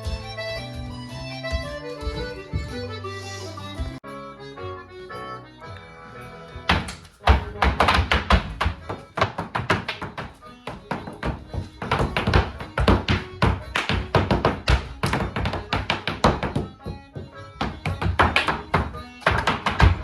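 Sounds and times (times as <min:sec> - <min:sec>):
shoes tapping on hard floor: 0:00.0 - 0:03.0, 0:06.7 - 0:20.0
music: 0:00.0 - 0:20.0.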